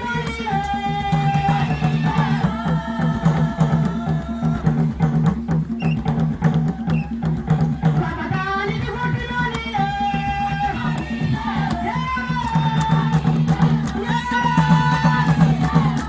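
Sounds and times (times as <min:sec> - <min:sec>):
person singing: 0:00.0 - 0:04.9, 0:06.7 - 0:16.0
drums played fast: 0:00.0 - 0:16.0.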